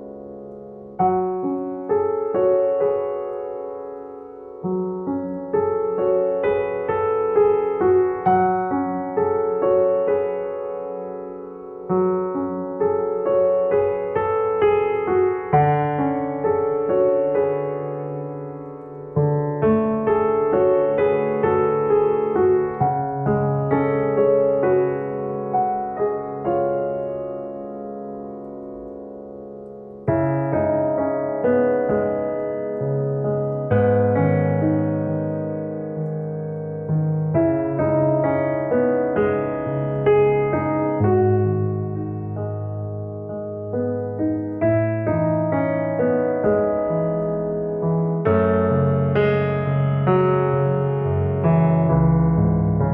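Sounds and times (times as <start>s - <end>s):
gentle piano music: 0.0s - 52.9s.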